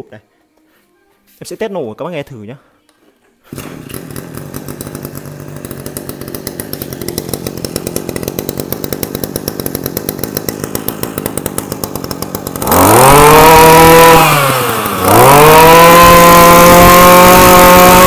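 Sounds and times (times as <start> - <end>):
two-stroke brush cutter engine: 3.5 - 18.0.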